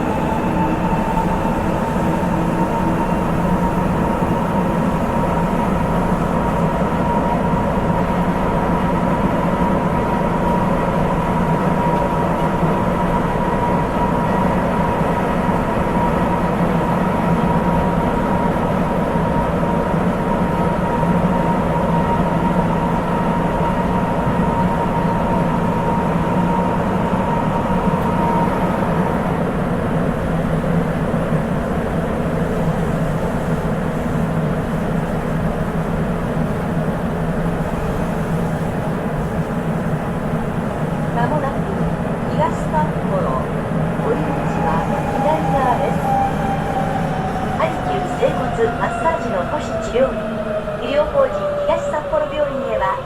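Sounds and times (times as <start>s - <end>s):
subway car low rumble: 0.0s - 53.0s.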